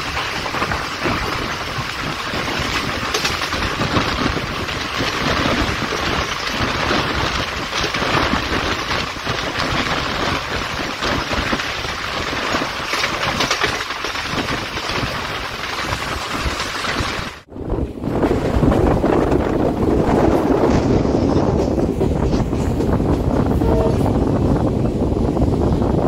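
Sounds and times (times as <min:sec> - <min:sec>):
train wheels on rail: 0:00.0 - 0:26.0
wind blowing past window: 0:00.0 - 0:26.0.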